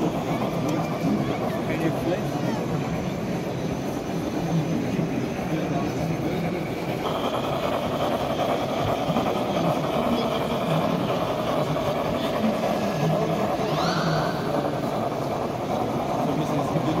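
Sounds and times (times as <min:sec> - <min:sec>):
model steam locomotive running: 0:00.0 - 0:17.0.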